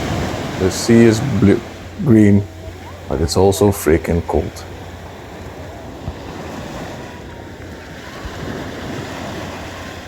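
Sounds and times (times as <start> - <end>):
surf washing onto beach: 0.0 - 10.0
wind buffeting microphone: 0.0 - 10.0.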